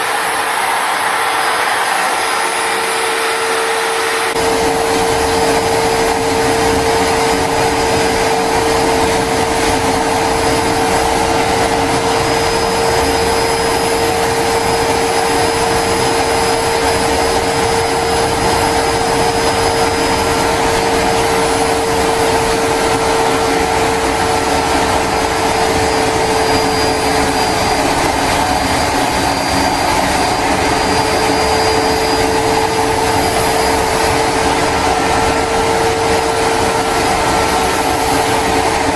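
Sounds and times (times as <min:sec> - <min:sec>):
jet engine running: 0:00.0 - 0:38.9.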